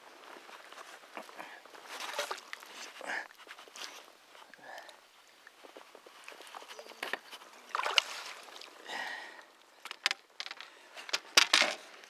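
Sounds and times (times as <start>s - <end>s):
water splashing and sloshing: 0.2s - 12.0s.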